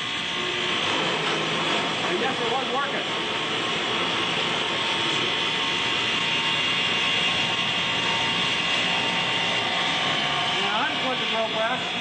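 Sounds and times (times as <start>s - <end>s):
drill press running: 0.0s - 12.0s
motor-generator running: 0.0s - 12.0s.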